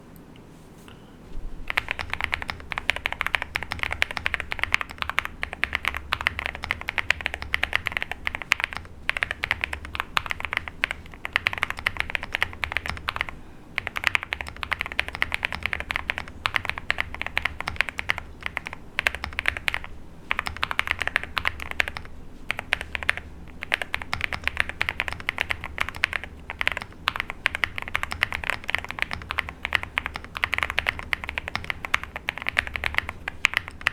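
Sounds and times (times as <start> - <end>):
fast mechanical keyboard typing: 1.7 - 33.9.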